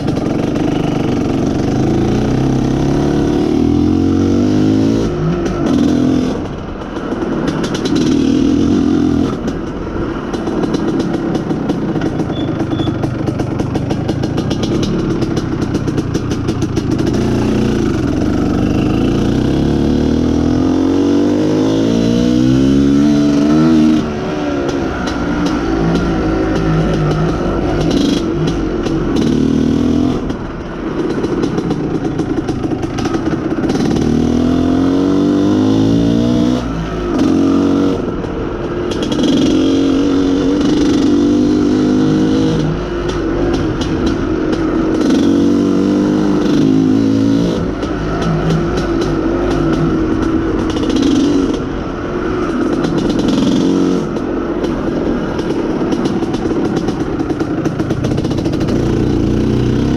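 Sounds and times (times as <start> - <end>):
motorcycle two-stroke engine running: 0.0 - 59.9.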